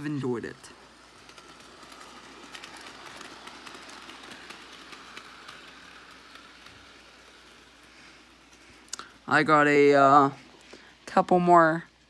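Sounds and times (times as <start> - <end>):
wheels clicking over rail joints: 0.0 - 11.8
model train motor whir: 0.0 - 12.0.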